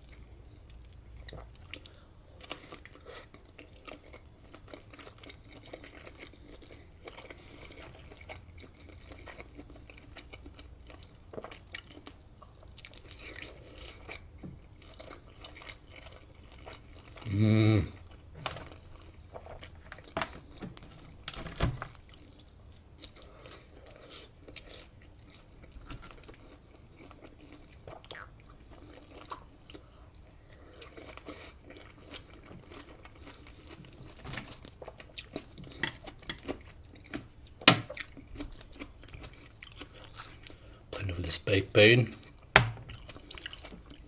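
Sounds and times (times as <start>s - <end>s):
chewing and wet mouth sounds: 0.0s - 21.0s, 21.9s - 44.0s.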